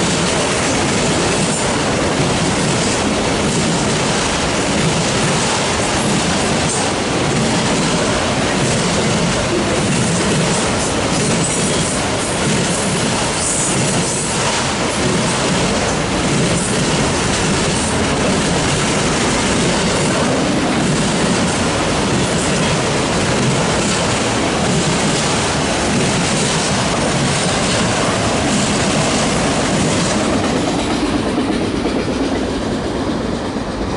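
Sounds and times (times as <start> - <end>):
freight train rumble: 0.0 - 33.9
train wheels clicking on rails: 0.0 - 33.9.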